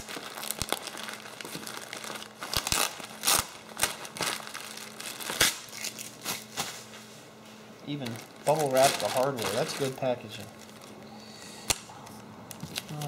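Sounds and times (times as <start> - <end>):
bubble wrap and plastic crinkling: 0.0 - 7.0, 7.9 - 11.1, 12.5 - 13.0.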